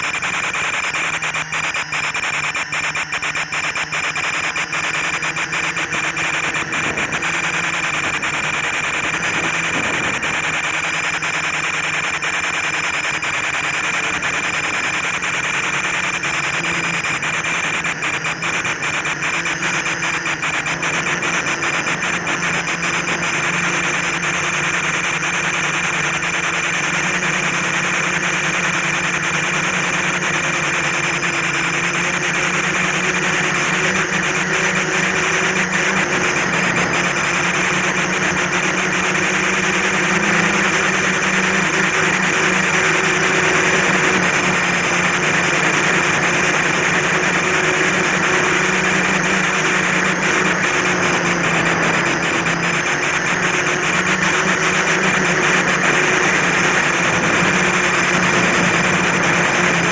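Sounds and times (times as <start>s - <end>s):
drone propellers buzzing: 0.0s - 59.9s
rapid crackling clicks: 0.0s - 59.9s.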